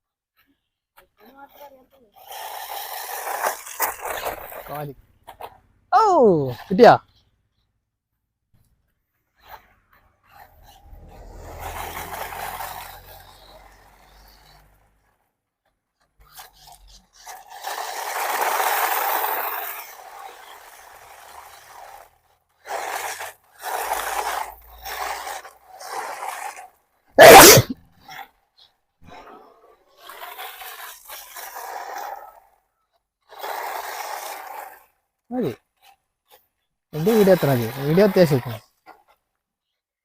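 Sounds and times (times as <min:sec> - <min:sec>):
scraping and crunching on rough ground: 0:00.4 - 0:05.7, 0:09.1 - 0:39.4.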